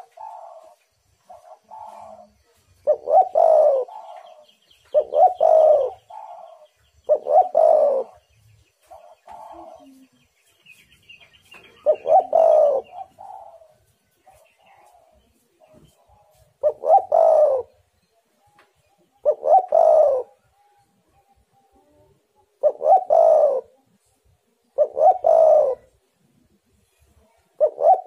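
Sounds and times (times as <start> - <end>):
dove cooing: 0.0 - 10.4, 11.5 - 17.9, 19.2 - 23.9, 24.6 - 26.0, 27.4 - 28.0
faint high chirping: 0.0 - 28.0.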